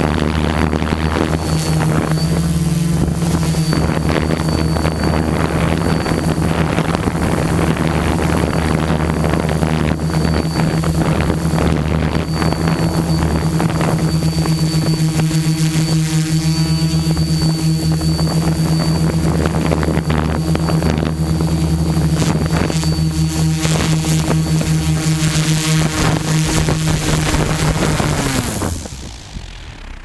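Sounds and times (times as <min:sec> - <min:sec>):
wind buffeting microphone: 0:00.0 - 0:29.6
drone motors humming: 0:00.0 - 0:30.0
thin high whine: 0:00.0 - 0:30.0.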